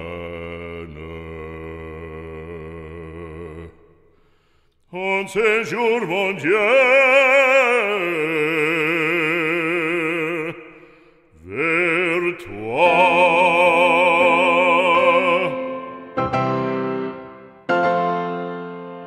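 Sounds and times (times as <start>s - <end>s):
operatic voice singing: 0.0s - 4.0s, 4.9s - 16.3s.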